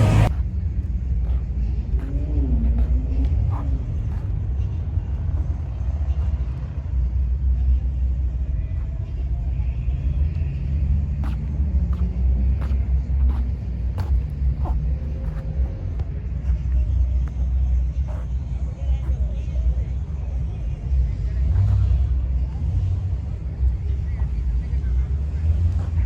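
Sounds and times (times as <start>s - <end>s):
car engine idling: 0.0s - 26.0s
faint voices: 0.0s - 26.0s.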